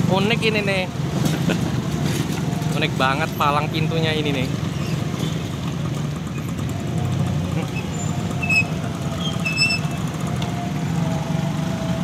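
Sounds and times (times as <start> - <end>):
motorcycle and car traffic: 0.0 - 12.0.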